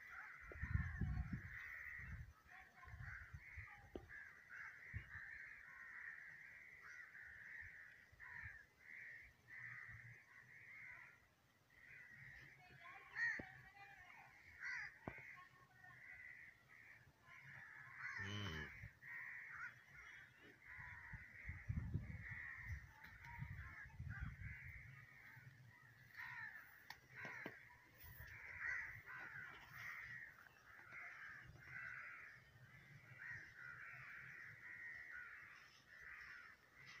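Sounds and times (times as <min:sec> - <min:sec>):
birds calling: 0:00.0 - 0:37.0.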